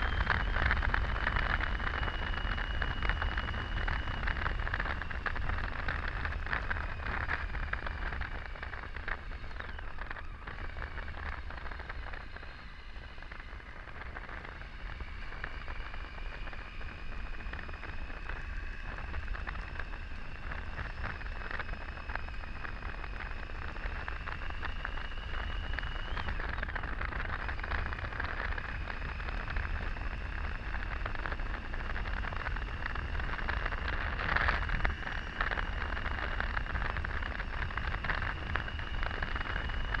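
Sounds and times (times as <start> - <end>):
faint high whine: 0.0 - 40.0
motorcycle engine rumble: 0.0 - 40.0
wind rushing over microphone: 0.0 - 40.0.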